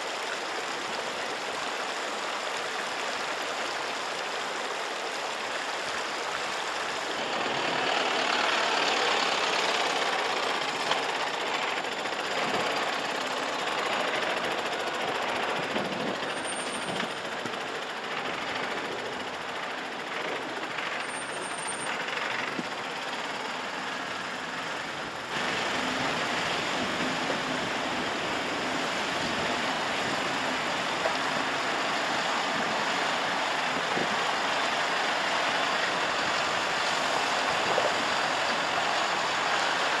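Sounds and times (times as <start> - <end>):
rushing water: 0.0 - 40.0
diesel truck engine under load: 4.4 - 40.0.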